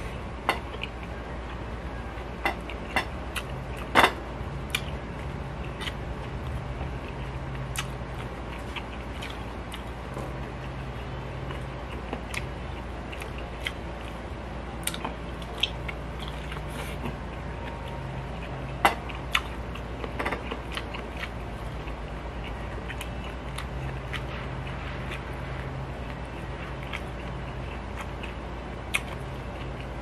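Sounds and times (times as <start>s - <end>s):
low hum: 0.0s - 30.0s
person chewing: 0.0s - 30.0s.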